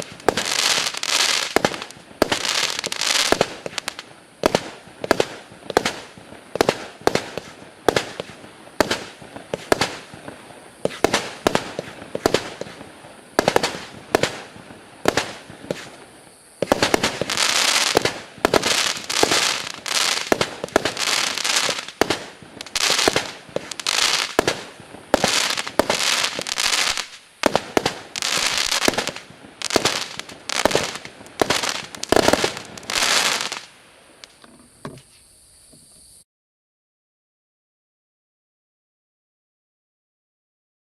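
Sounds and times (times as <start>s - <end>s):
firework shots with sharp reports: 0.0s - 34.3s
crackling hiss of firework bursts: 0.0s - 34.4s.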